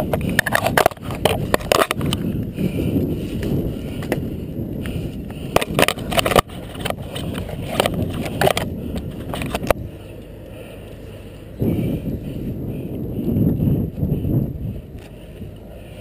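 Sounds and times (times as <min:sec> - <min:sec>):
camera movement rumble: 0:00.0 - 0:16.0.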